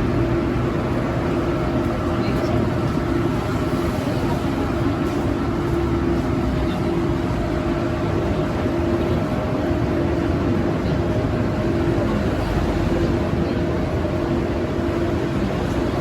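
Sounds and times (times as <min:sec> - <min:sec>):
train rumbling with hum: 0:00.0 - 0:16.0.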